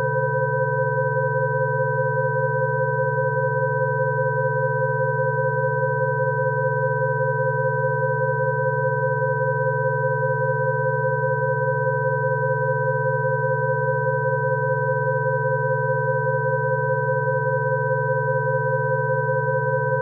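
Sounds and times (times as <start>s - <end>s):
steady electronic sine tones: 0.0s - 20.0s.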